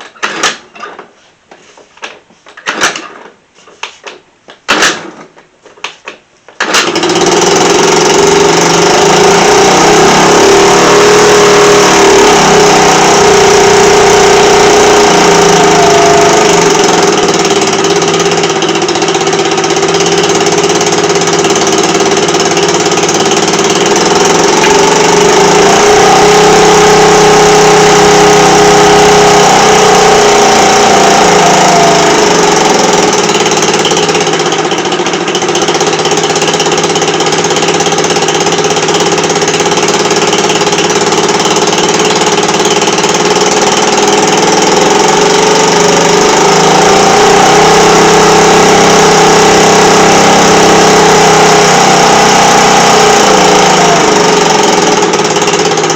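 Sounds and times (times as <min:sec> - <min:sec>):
scooter engine running: 0:06.6 - 0:55.9.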